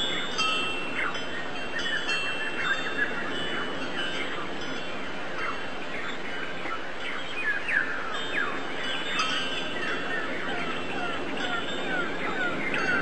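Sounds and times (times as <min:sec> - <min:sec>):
small birds chirping: 0:00.0 - 0:13.0
steady background hiss: 0:00.0 - 0:13.0.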